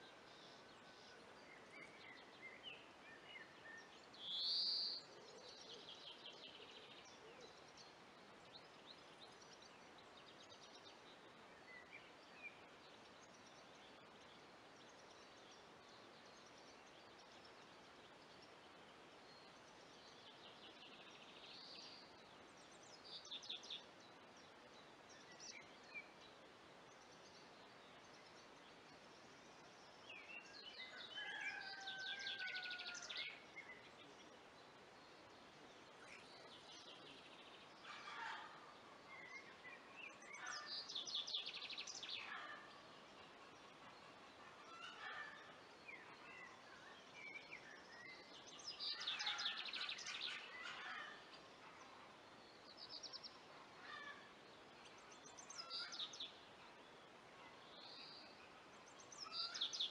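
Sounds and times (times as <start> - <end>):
faint steady hiss: 0.0 - 59.9
wild birds singing: 0.0 - 59.9.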